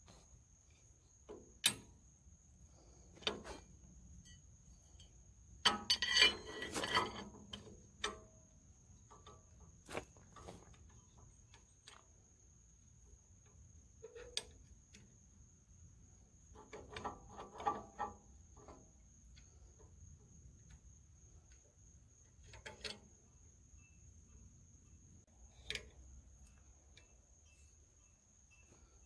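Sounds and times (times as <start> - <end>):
faint metal clinks and knocks: 0.0 - 15.4, 16.1 - 29.0.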